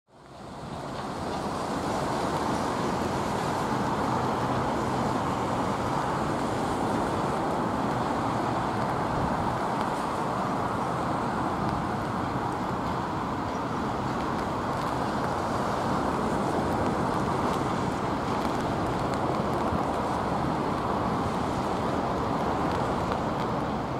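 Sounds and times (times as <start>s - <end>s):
gusty wind: 0.1s - 23.9s.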